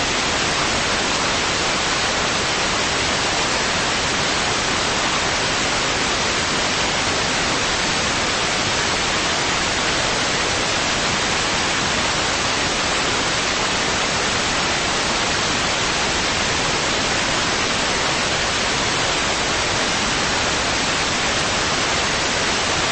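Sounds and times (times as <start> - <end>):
static hiss: 0.0 - 22.9.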